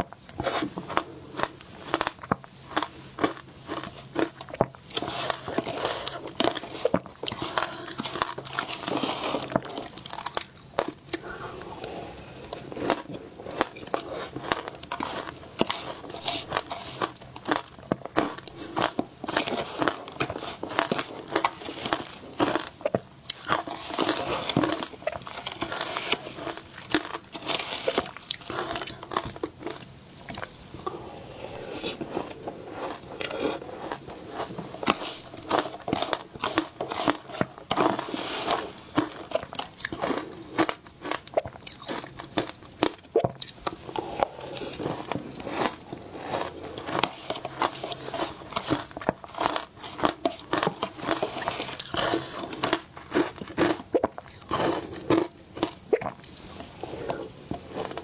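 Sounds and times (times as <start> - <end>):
crunching and chewing shaved ice: 0.0 - 58.0.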